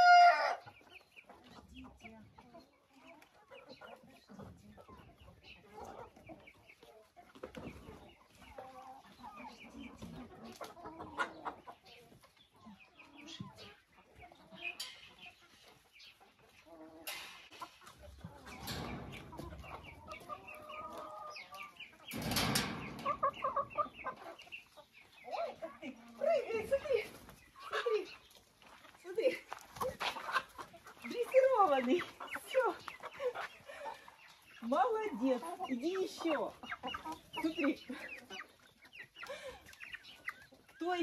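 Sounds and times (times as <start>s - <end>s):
chickens clucking: 0.0s - 41.0s.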